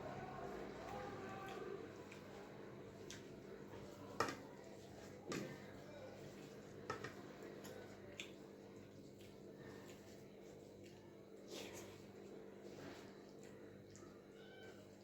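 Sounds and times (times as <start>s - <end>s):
soft eating clicks and taps: 0.1s - 12.4s.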